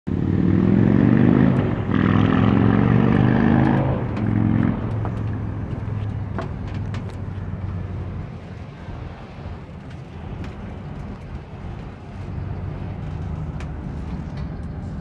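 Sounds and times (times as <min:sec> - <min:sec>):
engine humming: 0:00.1 - 0:15.0.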